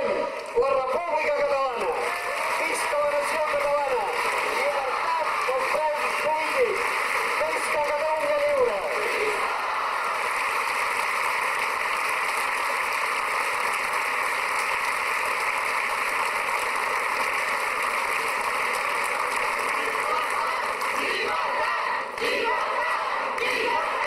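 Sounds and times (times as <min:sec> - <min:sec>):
large crowd applauding: 0:00.0 - 0:24.0.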